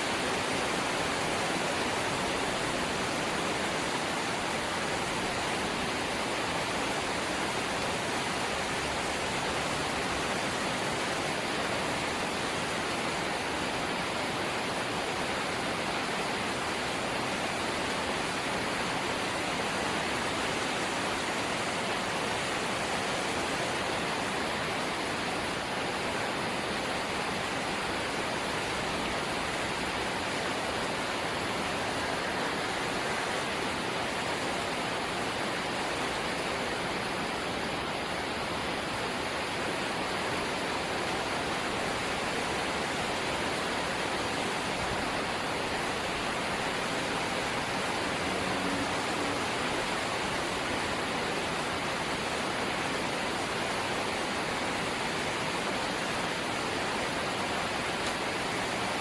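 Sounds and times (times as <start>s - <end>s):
steady light rain hiss: 0.0s - 59.0s.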